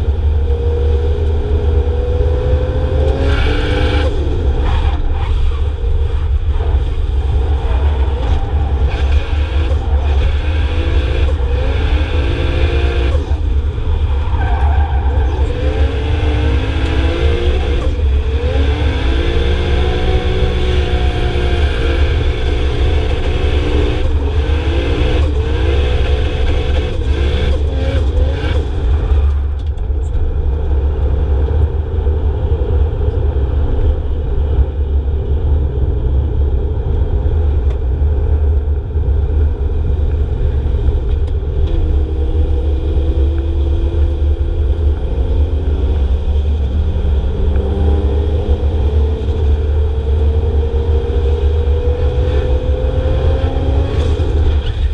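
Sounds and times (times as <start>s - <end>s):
car engines revving: 0.0s - 54.9s
heavy low rumble: 4.0s - 14.4s, 15.0s - 54.9s.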